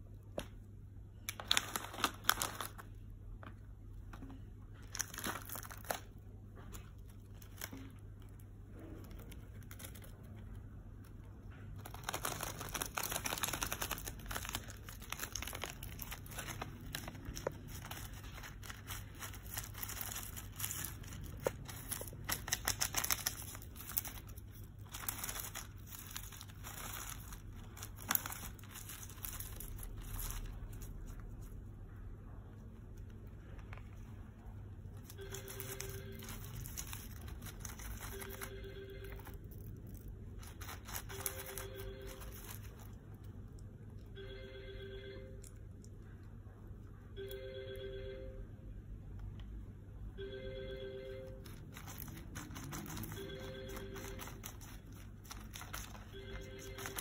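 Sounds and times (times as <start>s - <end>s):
plastic bag crinkling: 1.2s - 31.6s, 33.3s - 43.6s, 51.4s - 57.0s.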